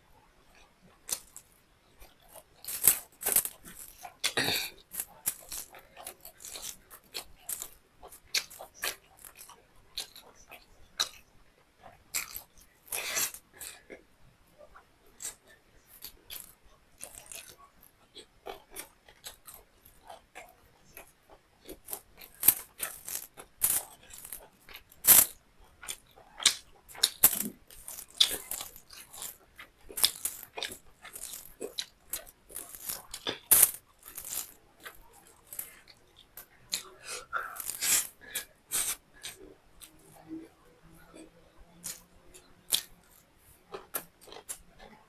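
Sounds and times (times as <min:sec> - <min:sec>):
chewing with wet mouth smacks: 0:00.5 - 0:14.0, 0:15.2 - 0:45.0.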